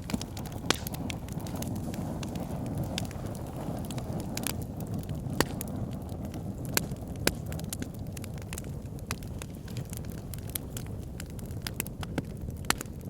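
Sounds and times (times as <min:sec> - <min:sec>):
loud fire snaps: 0:00.0 - 0:13.0
wood fire crackling and popping: 0:00.0 - 0:13.0.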